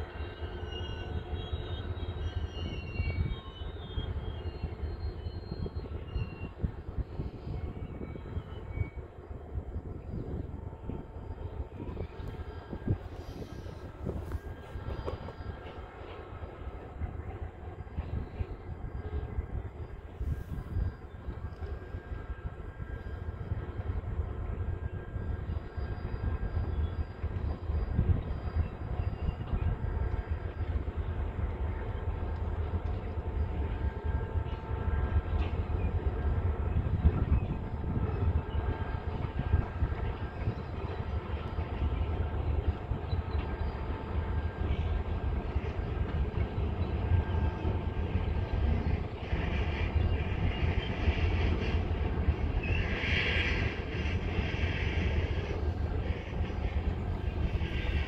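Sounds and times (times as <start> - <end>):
diesel locomotive rumbling: 0.0 - 58.0
wind buffeting microphone: 0.1 - 58.0.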